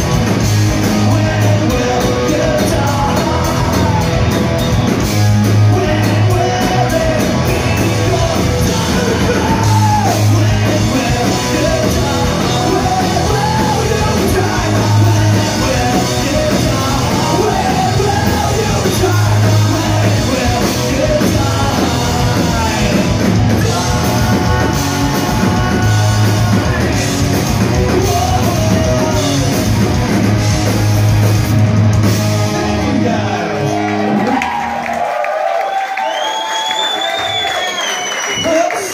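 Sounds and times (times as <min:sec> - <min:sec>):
punk band playing live: 0:00.0 - 0:36.2.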